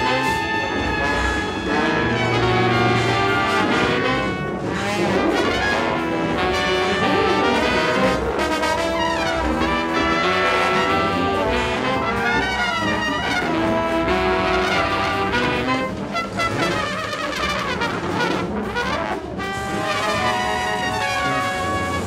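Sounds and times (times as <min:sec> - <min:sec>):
large ensemble of held notes: 0:00.0 - 0:22.0
trombones and trumpets: 0:00.0 - 0:22.0.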